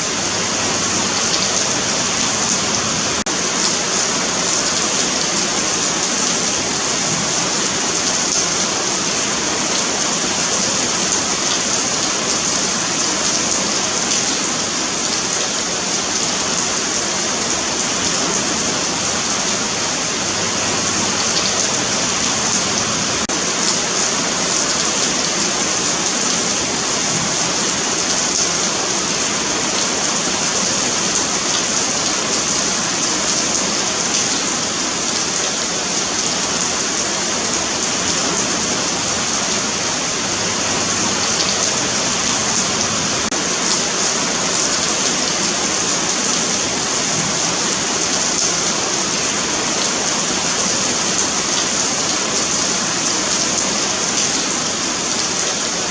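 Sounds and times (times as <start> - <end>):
rain falling on pavement: 0.0 - 55.9.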